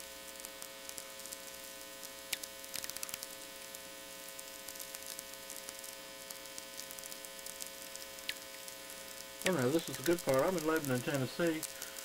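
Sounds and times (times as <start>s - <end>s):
radio static crackle and clicks: 0.0s - 12.0s
steady mains hum: 0.0s - 12.0s.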